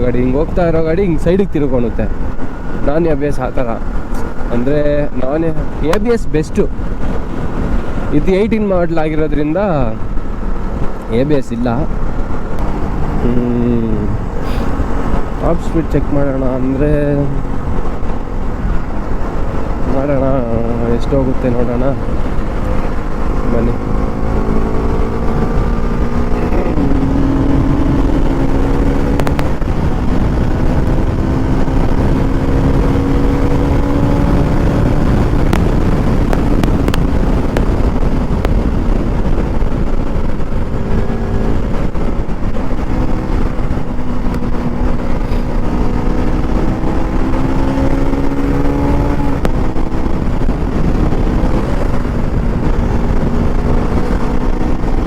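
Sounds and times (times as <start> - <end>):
wind rumble on microphone: 0.0 - 55.0
motorcycle engine at high revs: 10.0 - 55.0.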